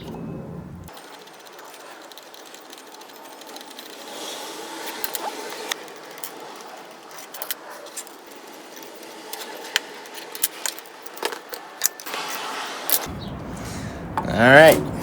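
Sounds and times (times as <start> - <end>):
screwdriver clicking on metal bolts: 0.9 - 13.1.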